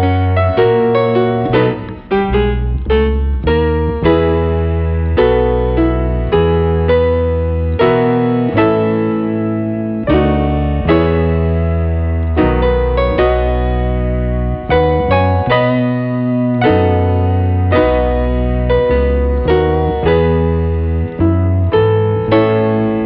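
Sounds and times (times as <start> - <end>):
keyboard playing slow chords: 0.0 - 23.0.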